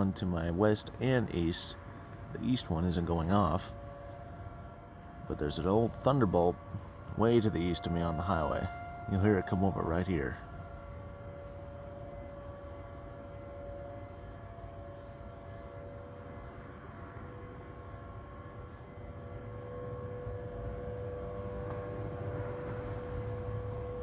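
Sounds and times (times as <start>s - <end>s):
distant warning siren wail: 0.0s - 24.0s.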